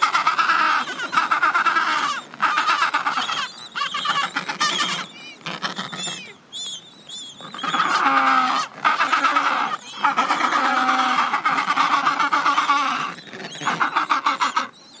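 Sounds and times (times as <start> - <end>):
penguins chirping: 0.1 - 6.4, 7.3 - 14.7.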